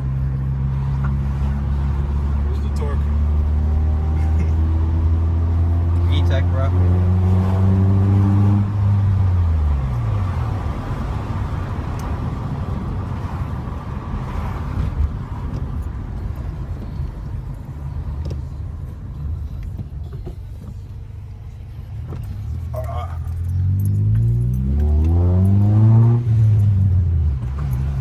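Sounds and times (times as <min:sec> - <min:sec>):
car engine revving: 0:00.0 - 0:28.0
car engine rumble and road noise: 0:00.0 - 0:28.0.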